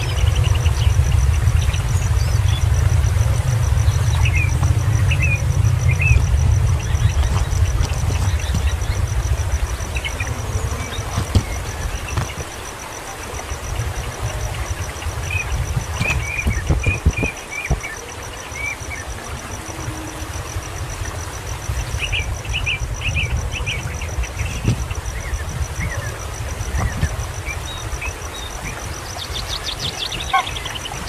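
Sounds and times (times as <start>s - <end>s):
continuous low rumble: 0.0s - 31.0s
insect high-pitched trill: 0.0s - 31.0s.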